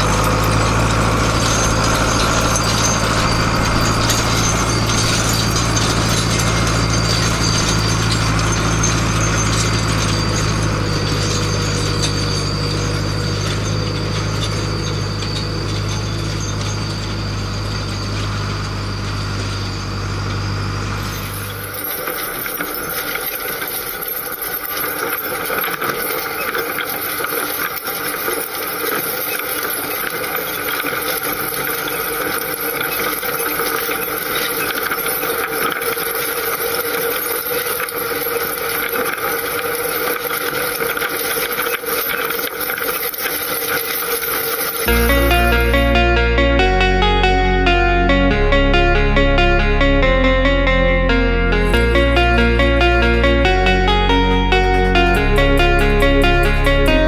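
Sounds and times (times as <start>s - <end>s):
harrow frame and tines clattering: 0.0s - 46.0s
tractor diesel engine running: 0.0s - 57.0s.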